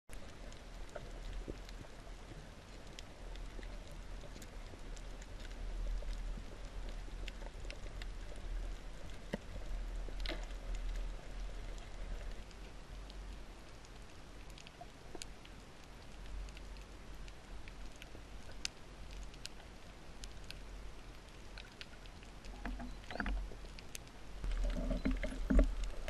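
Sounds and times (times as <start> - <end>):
sharp underwater clicks and crackles: 0.1 - 26.0
underwater rumble and hiss: 0.1 - 26.0.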